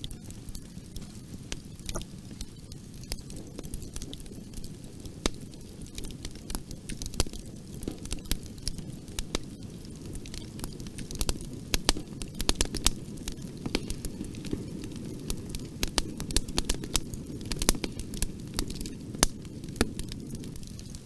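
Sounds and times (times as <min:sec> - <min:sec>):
wood fire crackling in a fireplace: 0:00.0 - 0:21.0.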